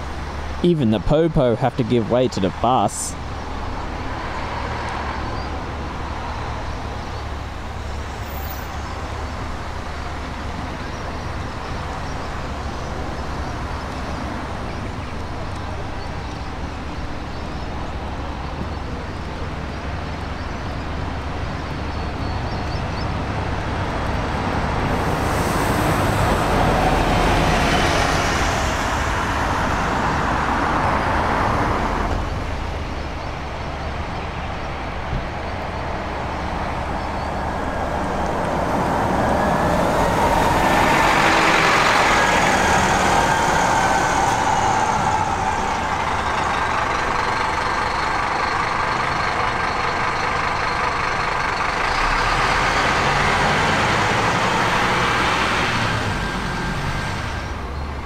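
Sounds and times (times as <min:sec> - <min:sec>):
buses driving past: 0:00.0 - 0:58.0.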